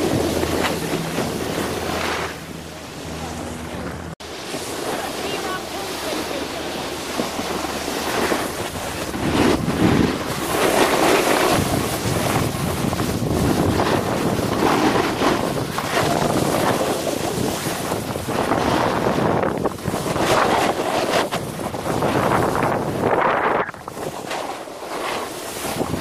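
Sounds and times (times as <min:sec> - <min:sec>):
snowboard scraping over snow: 0:00.0 - 0:26.0
wind buffeting microphone: 0:00.0 - 0:26.0.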